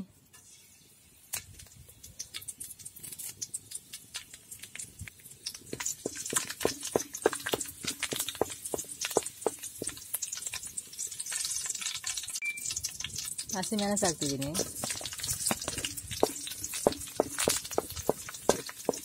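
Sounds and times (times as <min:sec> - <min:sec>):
leaves crackling in hot oil: 0:00.0 - 0:19.0.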